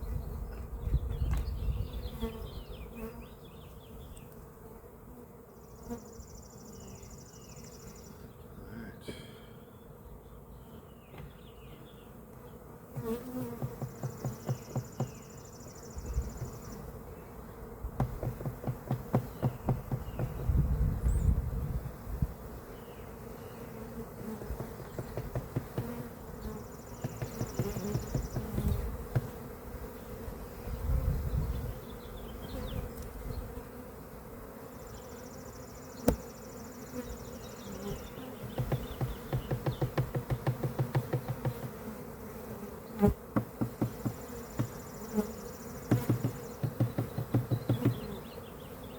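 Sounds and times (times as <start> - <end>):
bees buzzing: 0.0 - 48.9.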